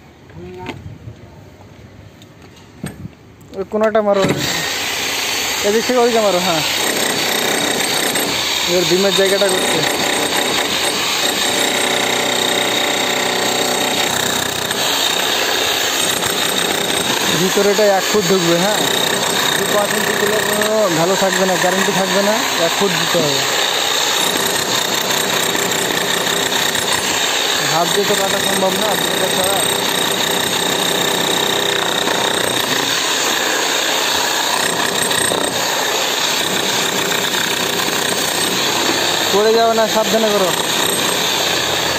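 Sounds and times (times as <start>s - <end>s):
demolition hammer breaking concrete: 6.6s - 41.9s.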